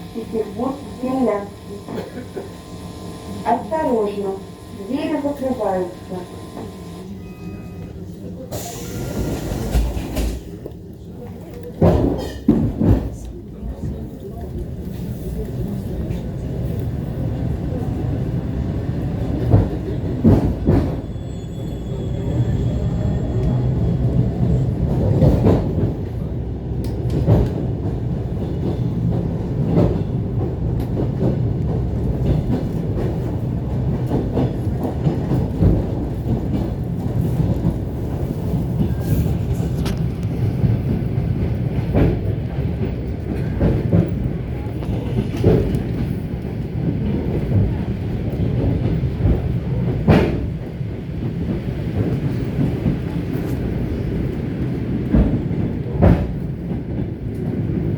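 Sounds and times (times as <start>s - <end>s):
electric train rumbling: 0.0s - 57.9s.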